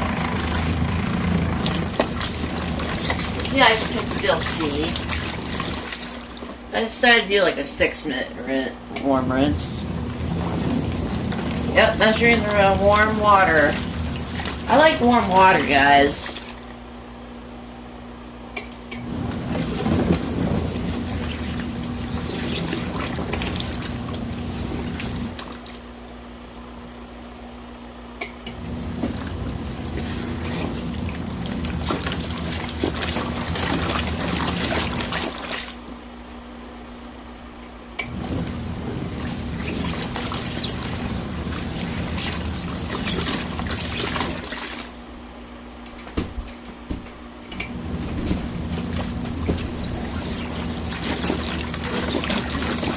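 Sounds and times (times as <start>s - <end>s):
washing machine swishing water: 0.0s - 8.2s, 9.0s - 17.0s, 19.0s - 26.4s, 28.5s - 36.6s, 38.0s - 45.2s, 47.5s - 52.9s
steady hum: 0.0s - 52.9s.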